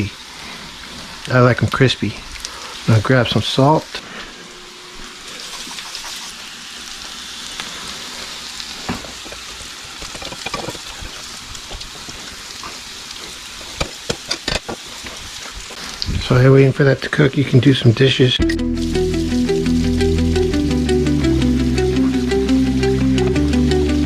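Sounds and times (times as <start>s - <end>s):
potatoes sizzling in oil: 0.0s - 23.6s.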